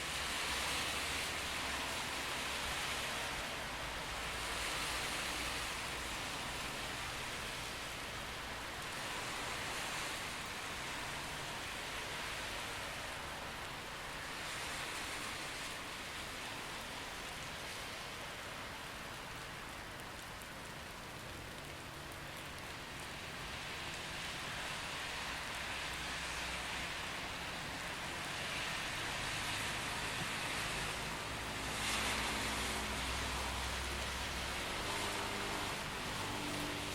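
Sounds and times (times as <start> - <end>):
steady rain: 0.0 - 36.9
tyres hissing on wet road: 0.0 - 36.9.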